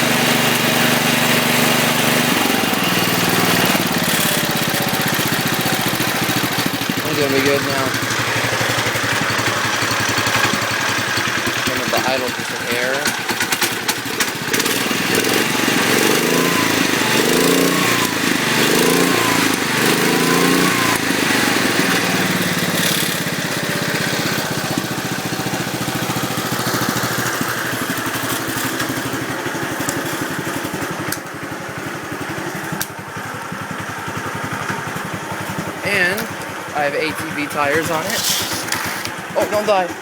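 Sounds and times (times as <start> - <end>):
garden tractor engine revving and idling: 0.0 - 40.0.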